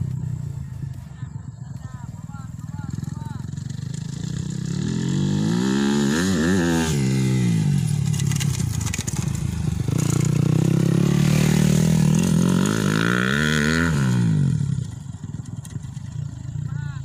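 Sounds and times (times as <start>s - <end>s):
dirt bike engine revving: 2.2s - 17.0s.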